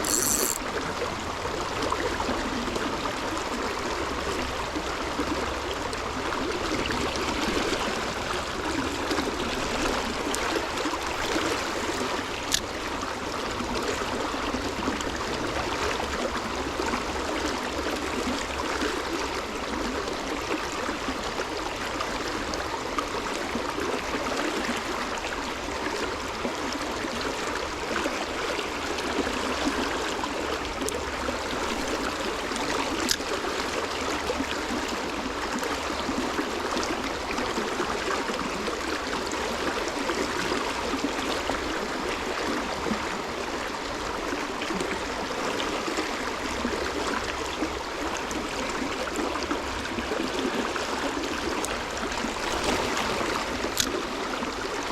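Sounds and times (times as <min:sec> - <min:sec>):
running water flowing: 0:00.0 - 0:54.9.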